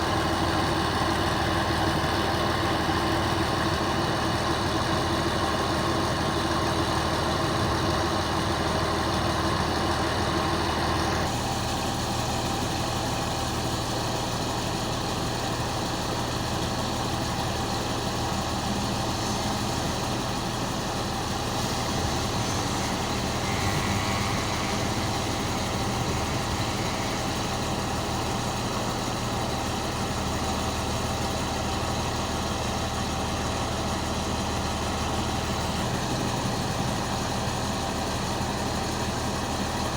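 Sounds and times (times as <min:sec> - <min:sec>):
large machine engine idling: 0:00.0 - 0:39.9.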